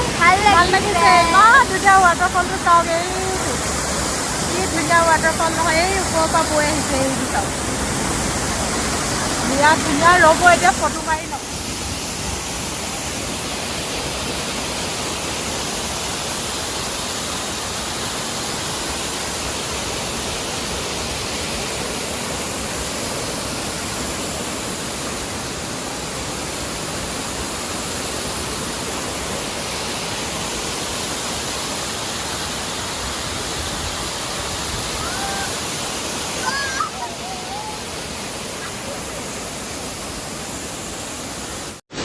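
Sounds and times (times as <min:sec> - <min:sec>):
large waterfall crashing: 0:00.0 - 0:42.0.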